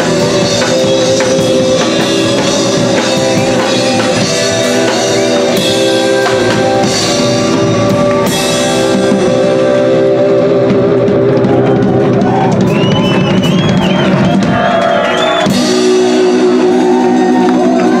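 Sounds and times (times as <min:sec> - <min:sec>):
electric guitar chords: 0:00.0 - 0:18.0
rock band playing live: 0:00.0 - 0:18.0.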